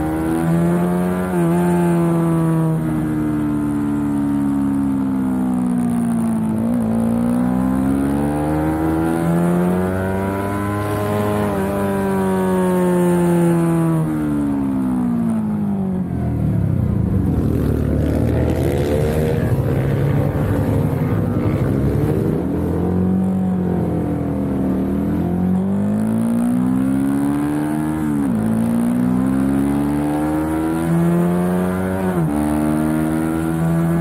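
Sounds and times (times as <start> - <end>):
motorcycle engine revving: 0.0 - 34.0
rougher motorcycle engine: 0.0 - 34.0.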